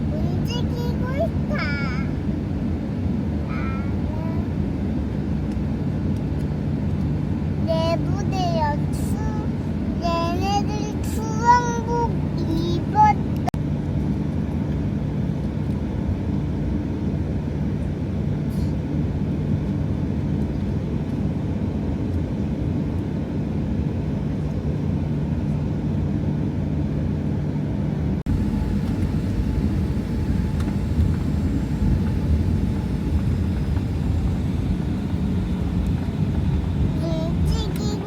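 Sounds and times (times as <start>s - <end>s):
airliner engine rumble in cabin: 0.0s - 38.0s.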